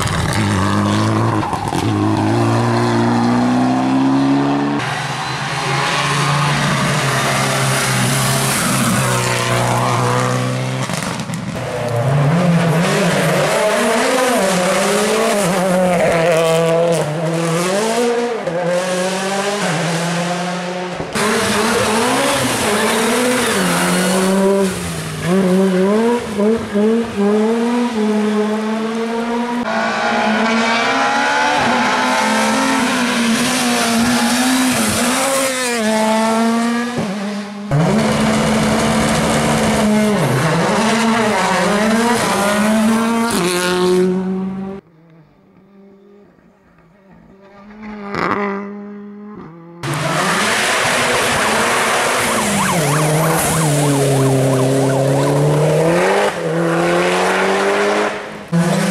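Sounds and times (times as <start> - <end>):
rally cars passing at speed: 0.0 - 58.9.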